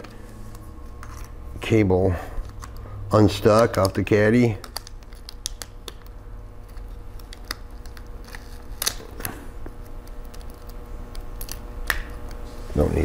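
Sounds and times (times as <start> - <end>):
faint steady hum: 0.0 - 13.0
tape peeling rustle: 2.4 - 13.0.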